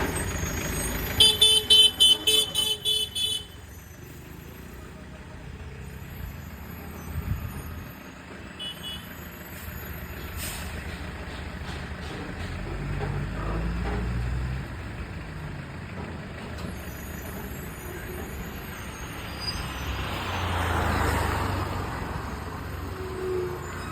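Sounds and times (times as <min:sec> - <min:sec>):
truck diesel engine drone: 0:00.0 - 0:23.9.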